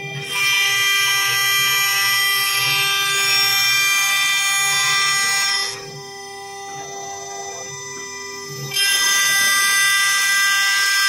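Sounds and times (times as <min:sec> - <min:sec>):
router cutting steel screech: 0:00.0 - 0:11.0.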